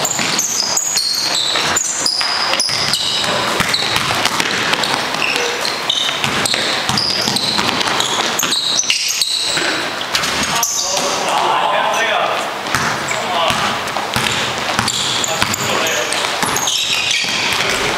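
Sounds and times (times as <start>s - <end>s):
basketball bouncing: 0.0s - 11.1s, 12.6s - 17.9s
sneaker squeaks: 0.0s - 11.2s, 12.6s - 17.9s.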